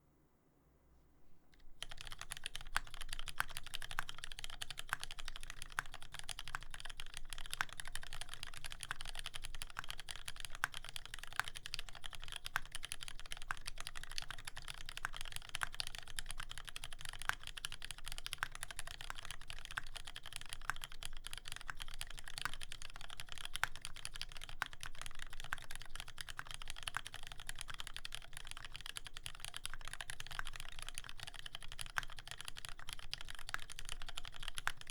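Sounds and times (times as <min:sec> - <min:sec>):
fast mechanical keyboard typing: 0:01.6 - 0:34.9.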